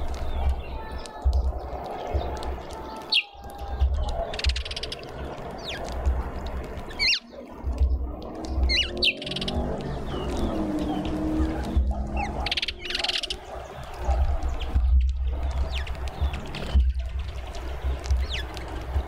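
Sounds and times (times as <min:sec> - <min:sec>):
birds chirping: 0:00.0 - 0:19.0
steady low rumble: 0:00.0 - 0:19.0.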